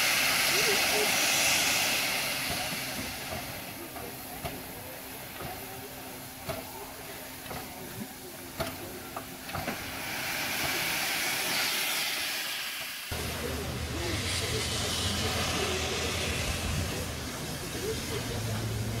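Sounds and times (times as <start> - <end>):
steam locomotive hissing: 0.0 - 19.0.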